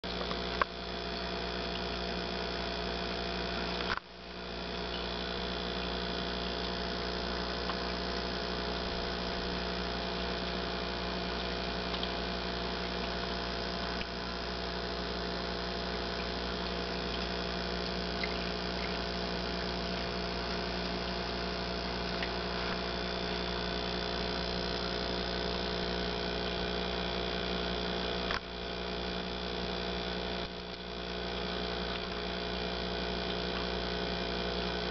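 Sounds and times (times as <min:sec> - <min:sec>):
constant hiss: 0:00.0 - 0:34.9
electrical hum: 0:00.0 - 0:34.9.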